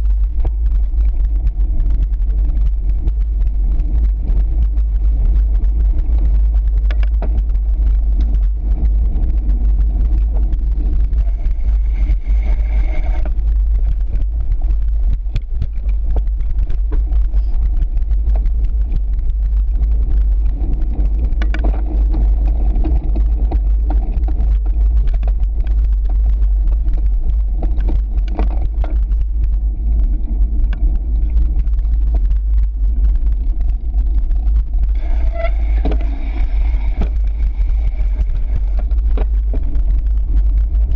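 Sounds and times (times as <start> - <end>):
bike rattling: 0.0 - 40.9
high-pitched whine: 0.0 - 40.9
tyres rolling over gravel: 0.0 - 40.9
wind rumble on microphone: 0.0 - 40.9.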